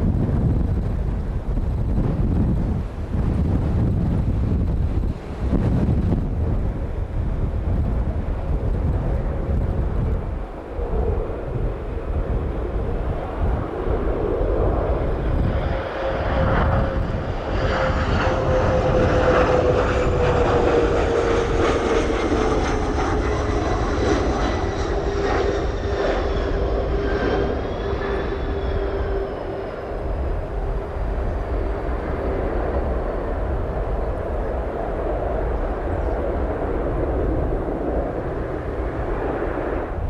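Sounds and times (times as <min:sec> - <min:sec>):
airplane engines passing: 0:00.0 - 0:40.0
high engine whine: 0:00.0 - 0:40.0.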